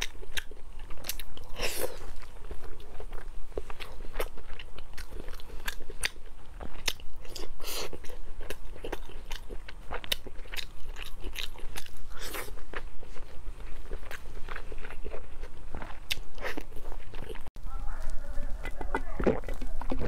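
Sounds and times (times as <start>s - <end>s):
biting and chewing: 0.0s - 20.0s.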